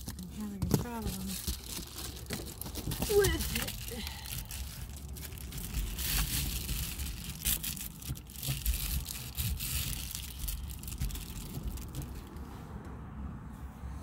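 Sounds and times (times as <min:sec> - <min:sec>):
foil insulation crinkling: 0:00.0 - 0:12.4.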